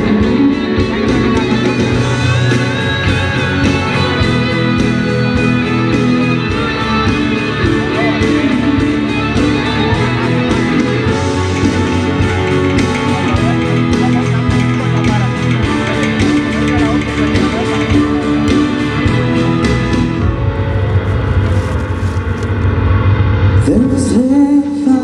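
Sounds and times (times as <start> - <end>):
drums with steady beat: 0.0 - 22.7
electric guitar: 0.0 - 25.0.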